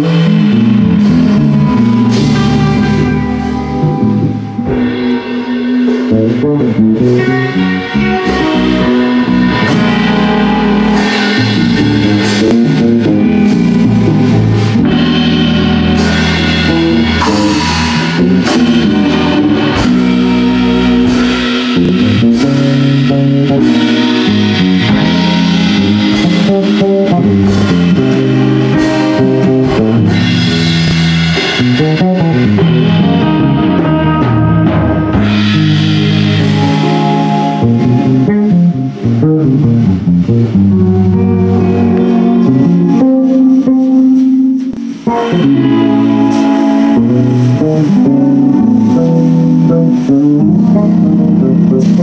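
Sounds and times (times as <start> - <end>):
drum kit: 0.0 - 52.0
guitar: 0.0 - 52.0
walking bass line: 0.0 - 52.0.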